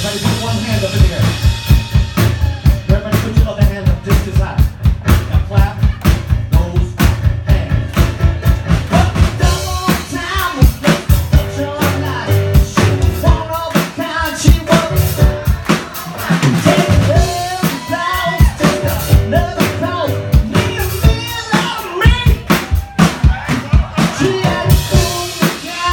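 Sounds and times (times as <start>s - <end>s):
drum kit beat: 0.0s - 25.9s
person singing: 0.0s - 25.9s
piano: 0.0s - 25.9s.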